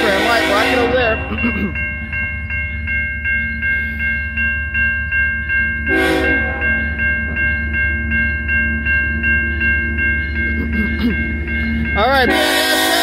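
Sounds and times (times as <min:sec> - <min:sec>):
crossing bell dinging: 0:00.0 - 0:13.0.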